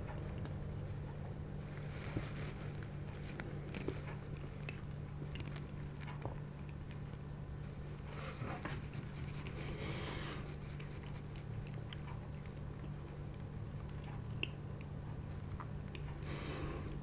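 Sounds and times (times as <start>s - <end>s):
wet chewing clicks: 0.0s - 9.8s, 10.4s - 17.0s
steady low hum: 0.0s - 17.0s.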